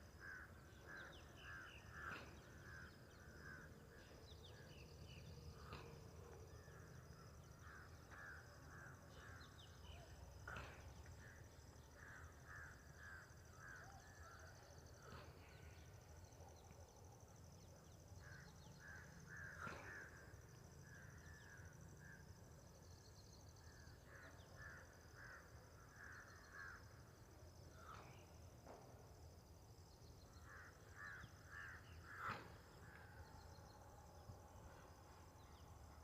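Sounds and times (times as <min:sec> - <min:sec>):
faint bird calls: 0:00.1 - 0:28.8, 0:29.9 - 0:36.0.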